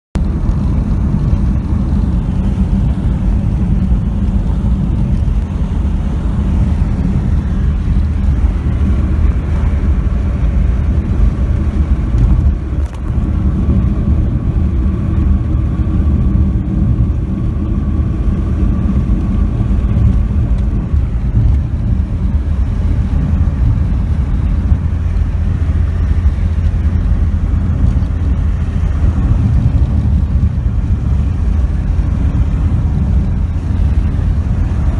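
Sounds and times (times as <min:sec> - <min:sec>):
car driving heard from inside: 0:00.2 - 0:34.9.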